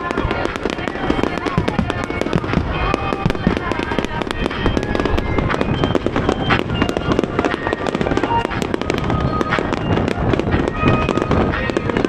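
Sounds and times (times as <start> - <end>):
fireworks bursts and crackling bangs: 0.0 - 12.0.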